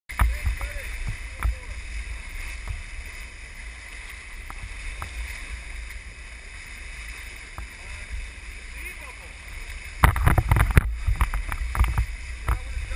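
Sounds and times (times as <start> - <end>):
sharp splashes: 0.1 - 12.9
water rushing along boat bow: 0.1 - 12.9.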